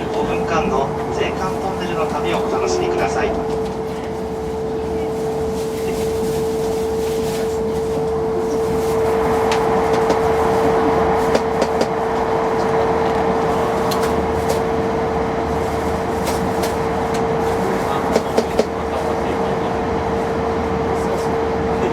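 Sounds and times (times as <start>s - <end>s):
train rushing rumble: 0.0s - 21.9s.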